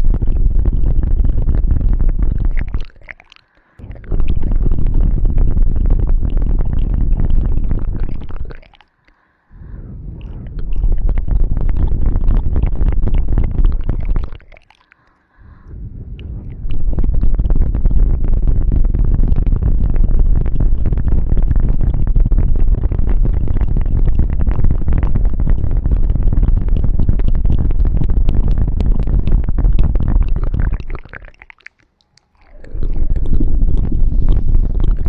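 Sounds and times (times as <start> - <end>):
scratching and rubbing on microphone: 0.0 - 8.9, 9.9 - 15.2, 15.9 - 35.0.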